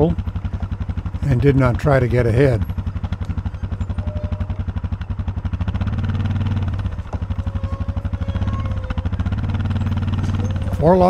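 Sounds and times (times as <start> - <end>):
atv engine under load: 0.0 - 11.0.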